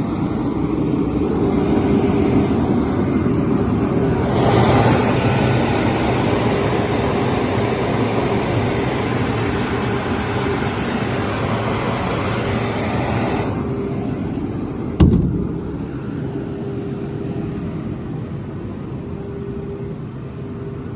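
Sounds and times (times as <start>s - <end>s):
compressor hissing and humming: 0.0s - 19.1s.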